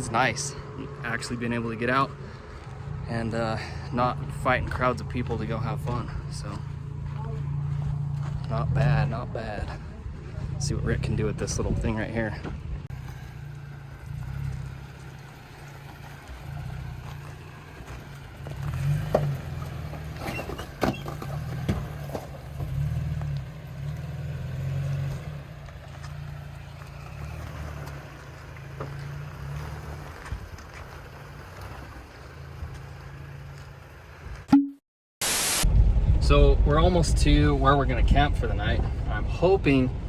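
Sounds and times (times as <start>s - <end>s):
pickup engine running at low revs: 0.0s - 34.4s.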